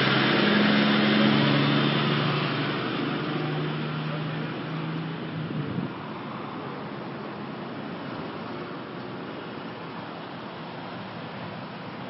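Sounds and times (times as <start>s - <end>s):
diesel truck engines running: 0.0s - 12.0s.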